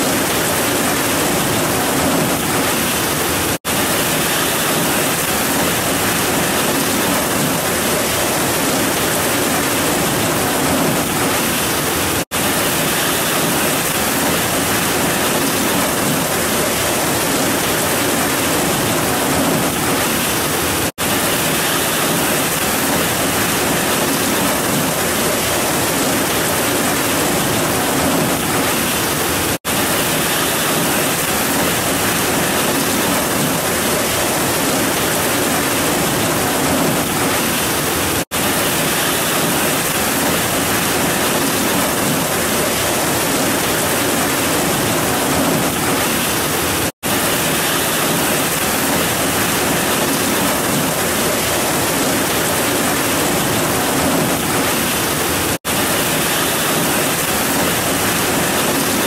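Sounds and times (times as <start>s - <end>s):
heavy rain on grass and trees: 0.0s - 59.0s.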